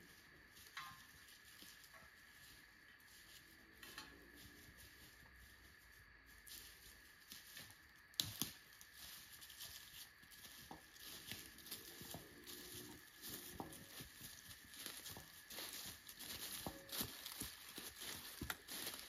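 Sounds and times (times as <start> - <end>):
dry leaves and twigs crackling: 0.0 - 19.0.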